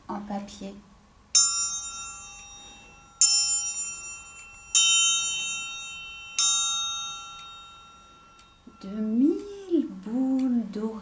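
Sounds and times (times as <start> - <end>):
metal triangle ringing: 1.3 - 10.4.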